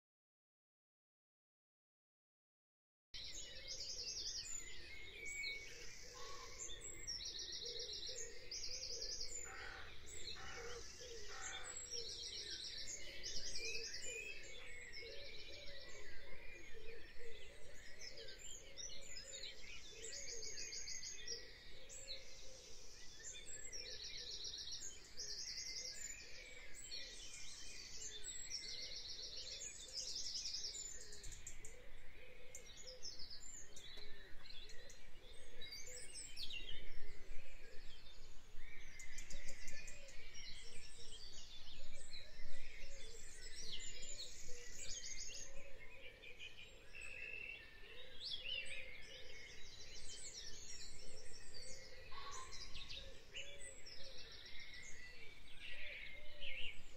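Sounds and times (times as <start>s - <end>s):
birds singing: 3.2s - 56.9s.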